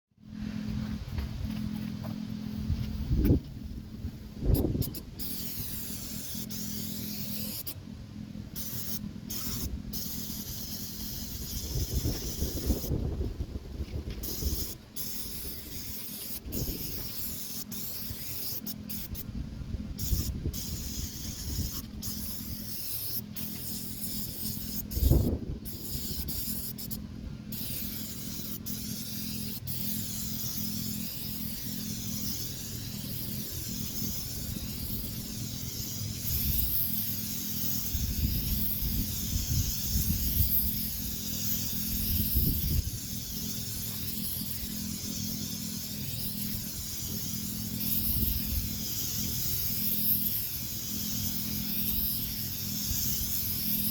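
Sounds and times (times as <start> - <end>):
steady low hum: 0.2 - 53.9
paint sprayer hissing: 0.5 - 53.9.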